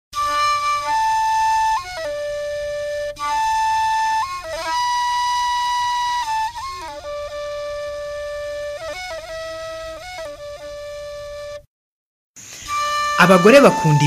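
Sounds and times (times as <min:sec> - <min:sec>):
flute playing slow melody: 0:00.2 - 0:11.7, 0:12.6 - 0:14.0.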